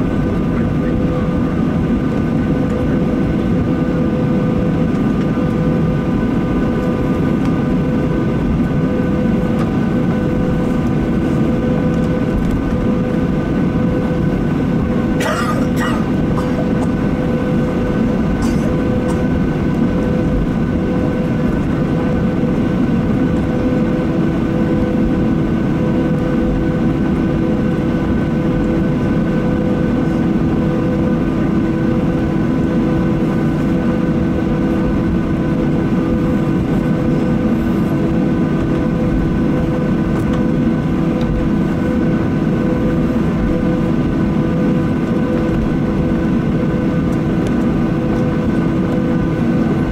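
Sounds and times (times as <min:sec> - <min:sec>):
jet engines idling: 0:00.0 - 0:49.9.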